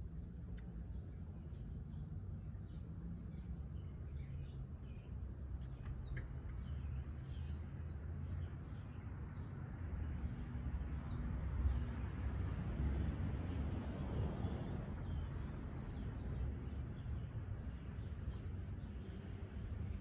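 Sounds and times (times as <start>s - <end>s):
songbirds chirping: 0.0s - 12.4s, 15.0s - 20.0s.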